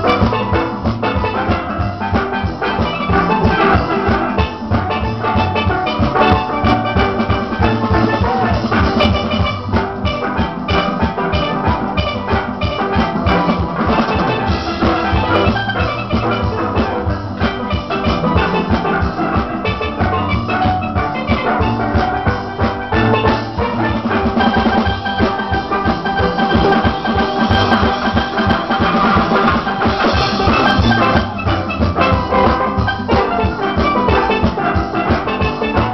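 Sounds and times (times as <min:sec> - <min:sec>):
drum kit beat: 0:00.0 - 0:35.9
steelpans playing melody: 0:00.0 - 0:35.9.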